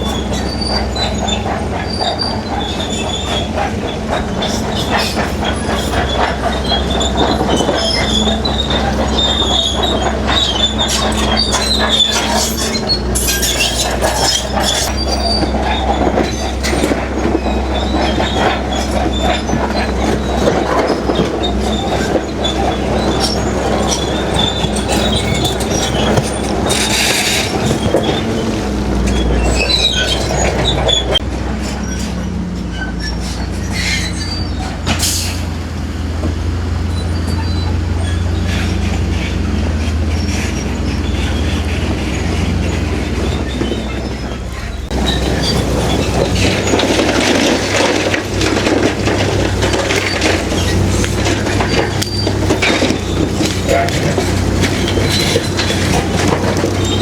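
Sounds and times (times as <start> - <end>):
bulldozer diesel engine drone: 0.0 - 57.0
steel tracks clanking and squealing: 0.0 - 57.0.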